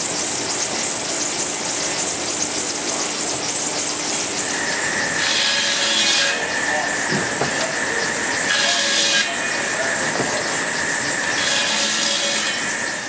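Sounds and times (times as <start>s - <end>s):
sawmill high whine: 0.0s - 13.0s
steam hissing: 0.0s - 13.0s.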